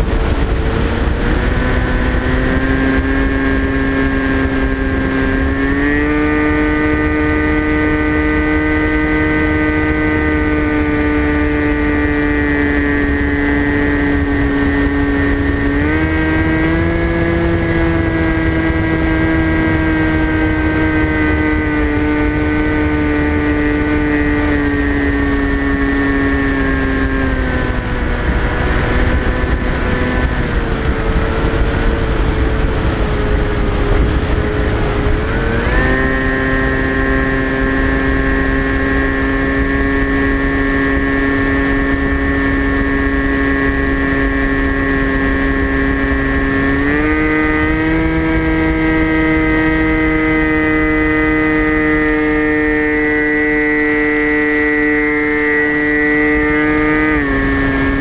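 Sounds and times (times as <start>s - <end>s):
electric motor and propeller whine: 0.0s - 58.0s
wind on microphone: 0.0s - 58.0s.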